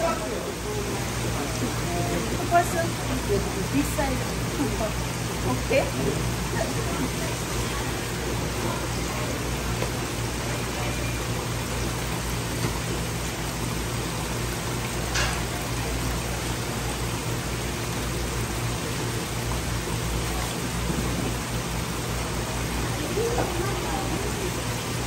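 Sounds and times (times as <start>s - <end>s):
aerated running water: 0.0s - 25.0s.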